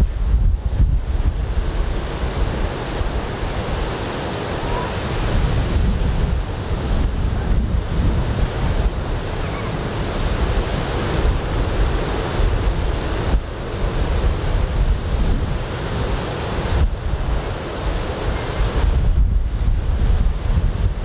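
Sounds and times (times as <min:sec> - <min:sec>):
ocean surf breaking: 0:00.0 - 0:20.9
wind rumbling on microphone: 0:00.0 - 0:21.0.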